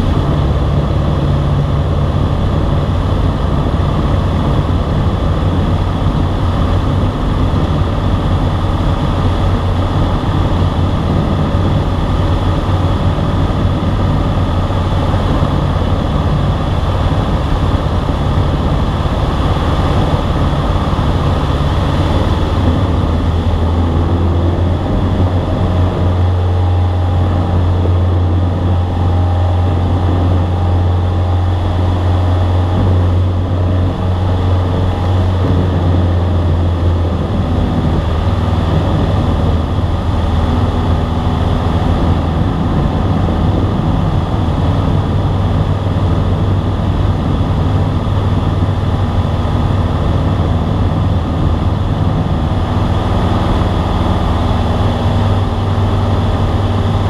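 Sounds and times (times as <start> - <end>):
airplane engine droning: 0.0 - 57.0
rushing air: 0.0 - 57.0.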